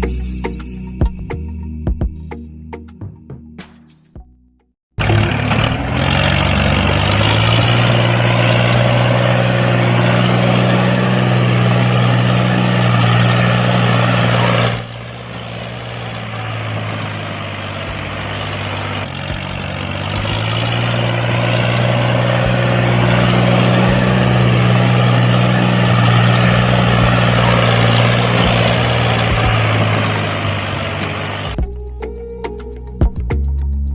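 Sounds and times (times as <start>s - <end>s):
motor humming: 5.0s - 32.3s.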